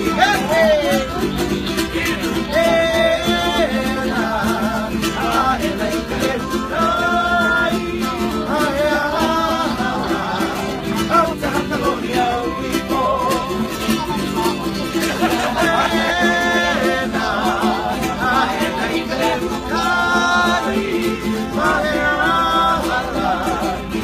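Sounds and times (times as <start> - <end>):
people singing: 0.0 - 24.0
strummed string instrument: 0.0 - 24.0.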